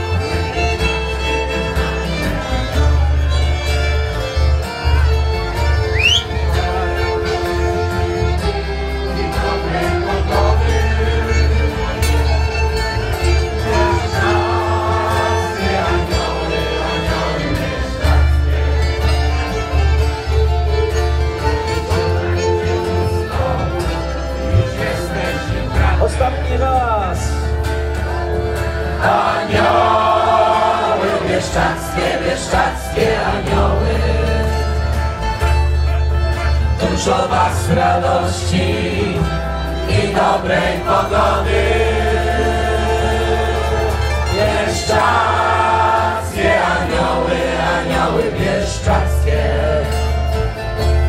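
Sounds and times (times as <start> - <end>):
group of voices singing: 0.0 - 3.4, 6.0 - 19.9, 21.7 - 26.4, 28.2 - 35.4, 36.5 - 50.6
acoustic folk band playing: 0.0 - 51.0.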